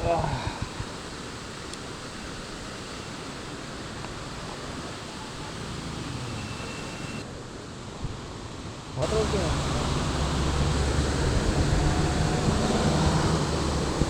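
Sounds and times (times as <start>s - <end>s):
waterfall rushing: 0.0s - 7.8s, 8.7s - 14.0s.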